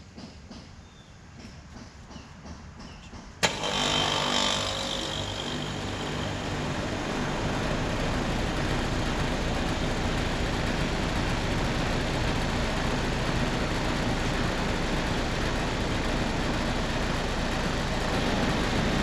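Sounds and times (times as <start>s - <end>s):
heat pump compressor and fan running: 0.0s - 19.0s.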